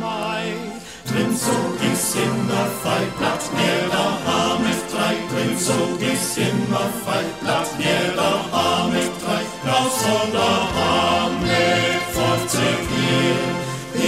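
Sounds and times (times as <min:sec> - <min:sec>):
choir singing folk song: 0:00.0 - 0:14.0.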